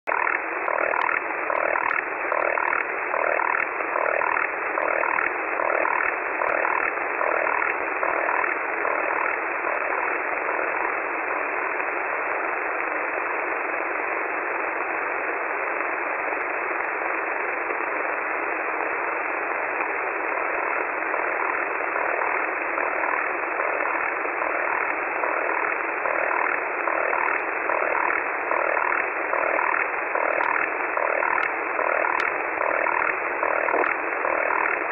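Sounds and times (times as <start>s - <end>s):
multitone data signal: 0.1s - 13.5s, 14.6s - 34.9s
radio band noise hiss: 0.1s - 34.9s.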